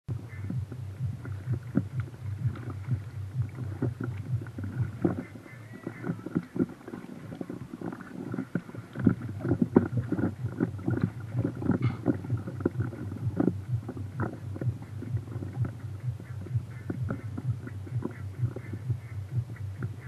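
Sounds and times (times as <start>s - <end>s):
steady low hum: 0.1s - 20.0s
river water splashing: 0.2s - 20.0s.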